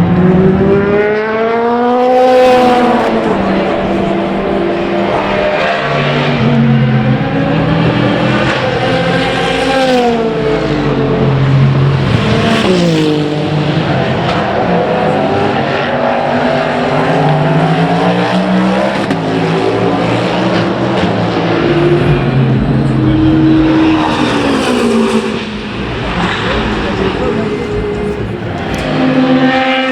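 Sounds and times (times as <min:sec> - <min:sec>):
racing car engines passing by: 0:00.0 - 0:29.9.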